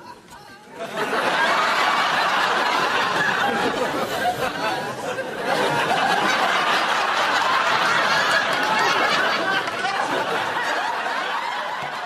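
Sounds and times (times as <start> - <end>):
people snickering and chuckling: 0.0 - 12.0.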